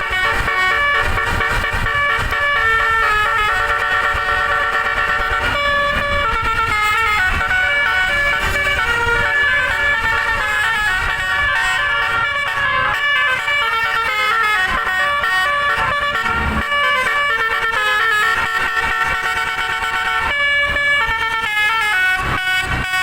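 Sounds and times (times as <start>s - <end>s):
musical air horn playing a tune: 0.0s - 23.0s.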